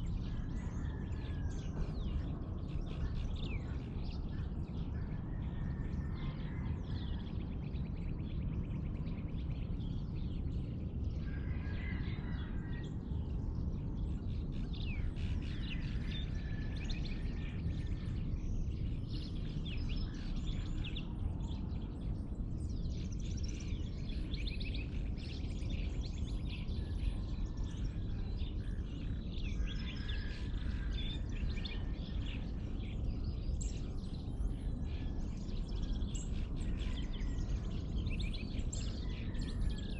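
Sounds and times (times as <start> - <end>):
birds chirping in dawn chorus: 0.0 - 39.9
steady low rumble: 0.0 - 39.9.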